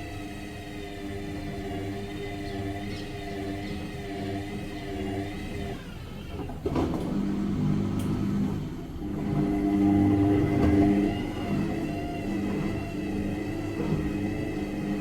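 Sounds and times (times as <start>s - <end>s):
washing machine motor humming: 0.0s - 15.0s.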